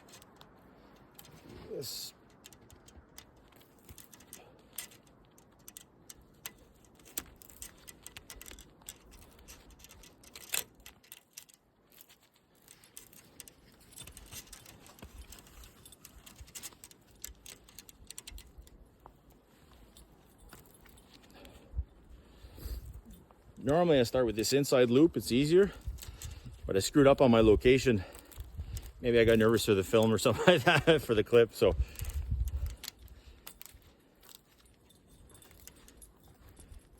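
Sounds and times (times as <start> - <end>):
metal wire clicking and rattling: 0.0 - 36.9.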